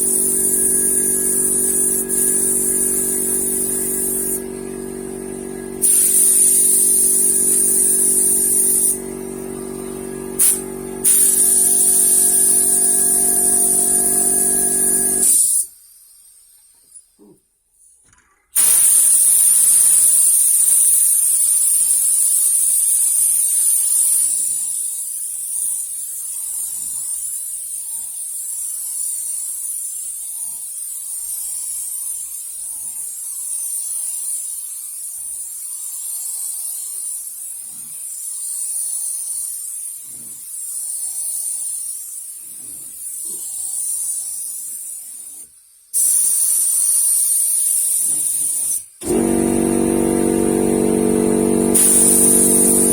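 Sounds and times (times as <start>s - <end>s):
paint spraying hiss: 0.0s - 17.0s, 18.6s - 52.9s.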